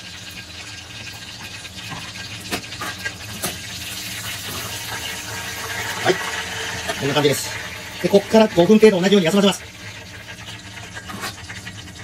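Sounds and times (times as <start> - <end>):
deep-frying sizzle and bubbling: 0.0 - 12.0.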